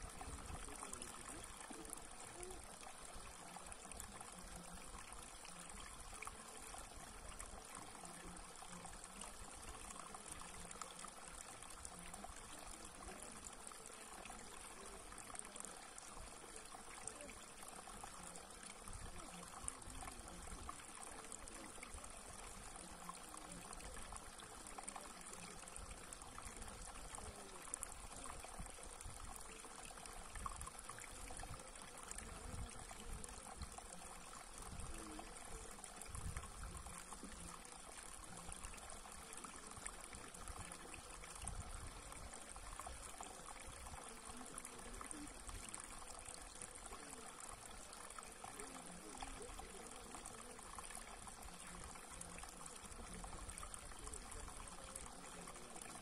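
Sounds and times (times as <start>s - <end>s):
shallow water trickling: 0.0s - 56.0s.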